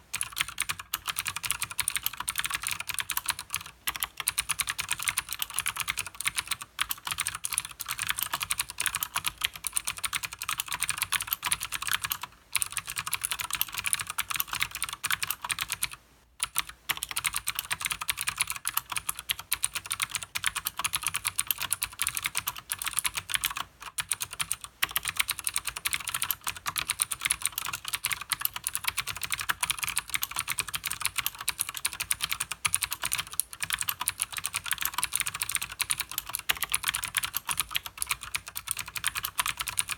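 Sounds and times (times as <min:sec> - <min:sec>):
fast typing on clicky keyboard: 0:00.1 - 0:39.9.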